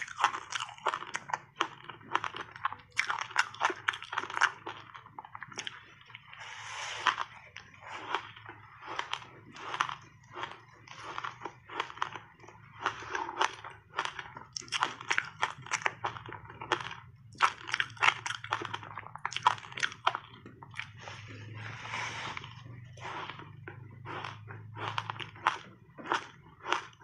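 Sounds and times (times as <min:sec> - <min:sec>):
crunching ice while chewing: 0:00.0 - 0:06.4, 0:07.0 - 0:21.6, 0:22.2 - 0:27.0.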